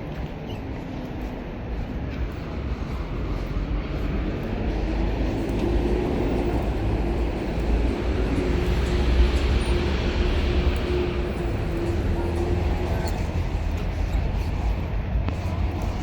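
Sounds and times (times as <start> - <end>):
city street traffic: 0.0 - 16.0
large vehicle engine rumble: 0.0 - 16.0.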